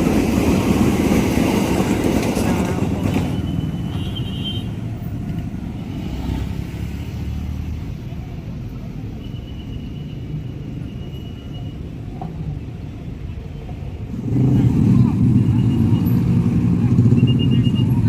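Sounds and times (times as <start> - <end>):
rumble of passing vehicles: 0.0 - 18.0.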